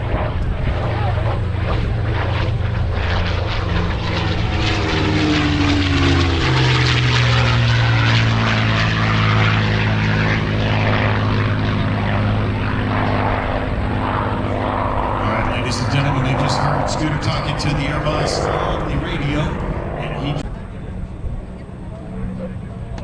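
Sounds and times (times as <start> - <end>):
propeller plane passing by: 0.0 - 23.0.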